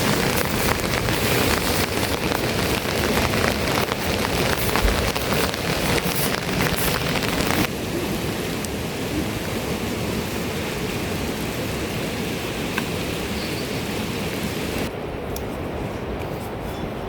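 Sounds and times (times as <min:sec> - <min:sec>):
steady rain falling: 0:00.0 - 0:14.9.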